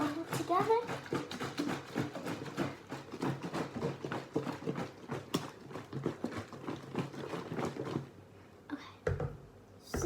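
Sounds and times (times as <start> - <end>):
liquid sloshing in shaken bottles: 0.0 - 8.2.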